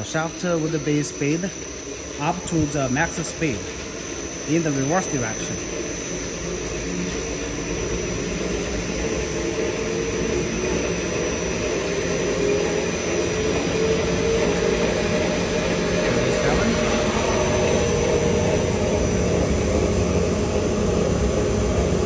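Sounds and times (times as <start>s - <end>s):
mixer machine hum: 0.0s - 22.0s.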